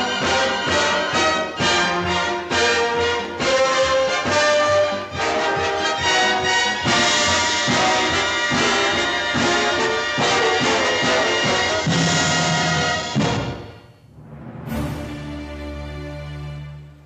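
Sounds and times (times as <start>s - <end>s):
orchestral brass show music: 0.0s - 17.0s.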